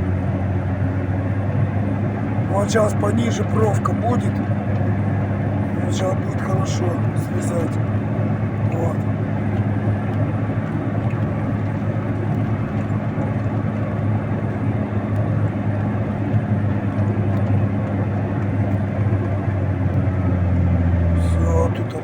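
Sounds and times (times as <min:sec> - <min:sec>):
snow plough engine under load: 0:00.0 - 0:22.0.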